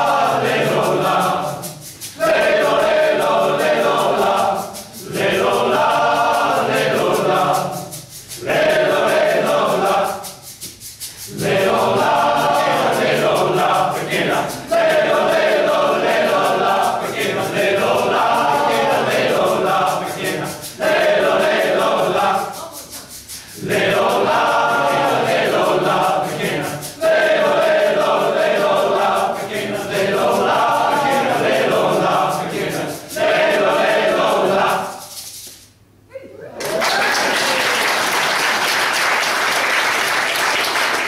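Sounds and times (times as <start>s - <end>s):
men's choir singing: 0.0s - 10.6s, 11.2s - 35.1s.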